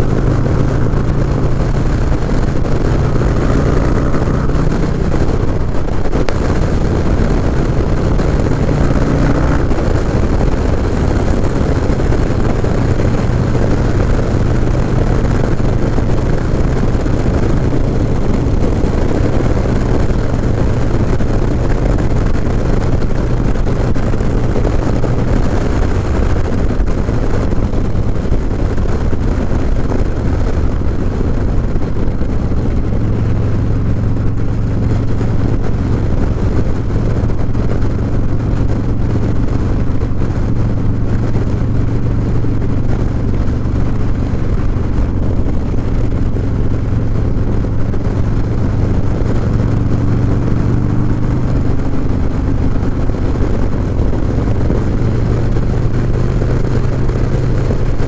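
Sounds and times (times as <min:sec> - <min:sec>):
motorcycle engine running: 0:00.0 - 0:58.0
road noise: 0:00.0 - 0:58.0
wind noise: 0:00.0 - 0:58.0.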